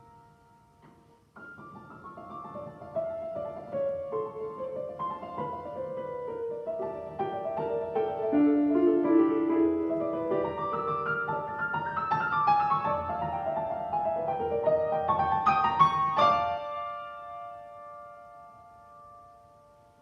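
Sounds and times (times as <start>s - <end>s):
solo piano: 0.0s - 20.0s.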